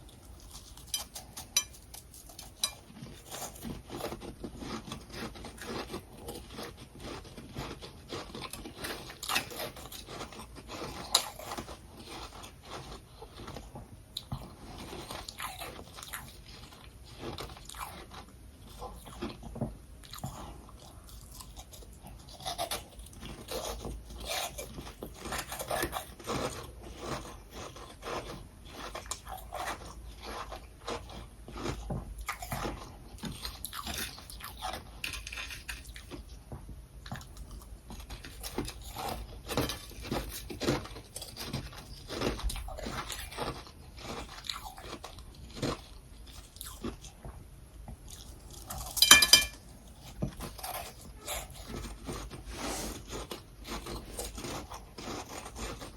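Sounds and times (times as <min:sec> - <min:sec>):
chewing crushed ice crunching: 0:00.0 - 0:55.9.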